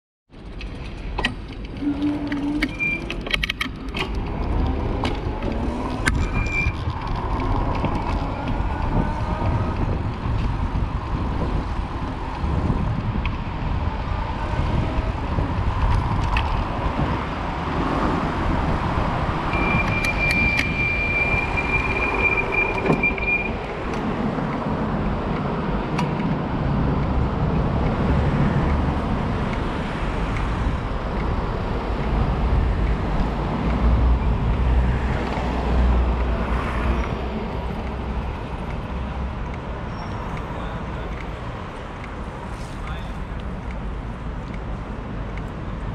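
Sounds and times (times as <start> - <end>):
city street traffic rumble: 0.3 - 45.9.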